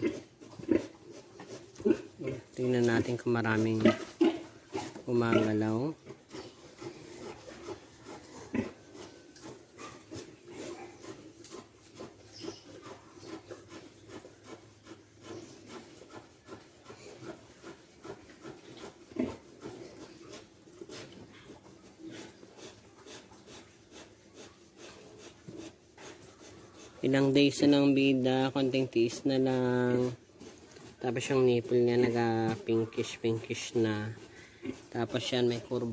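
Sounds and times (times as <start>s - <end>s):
pigs grunting: 0.0s - 35.9s.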